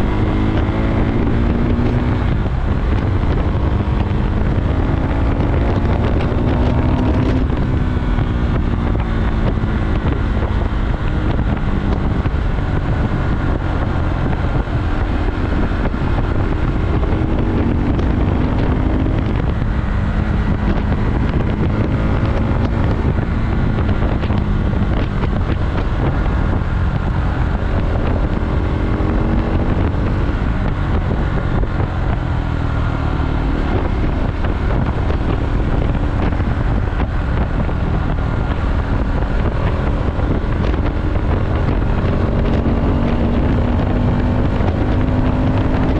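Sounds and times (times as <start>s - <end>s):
motorcycle engine revving: 0.0s - 45.9s
wind noise on microphone: 0.0s - 45.9s.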